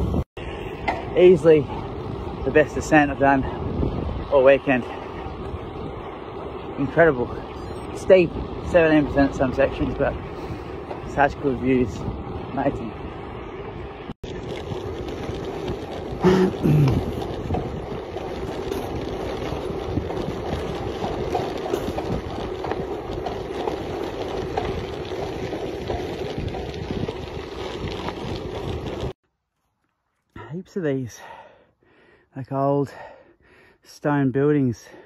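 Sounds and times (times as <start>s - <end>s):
wind on microphone: 0.0s - 29.2s
bicycle tyres on gravel: 0.0s - 29.7s.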